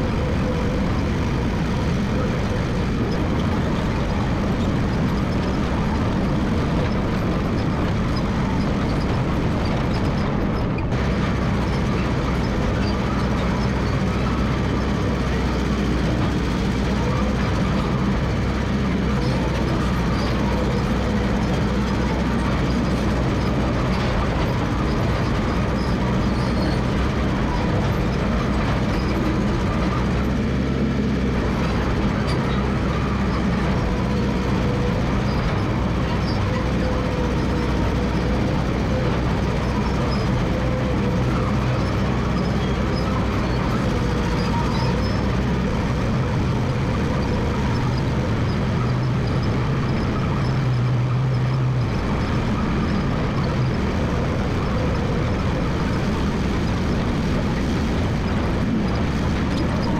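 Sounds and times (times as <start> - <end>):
diesel engine running under work: 0.0 - 59.9.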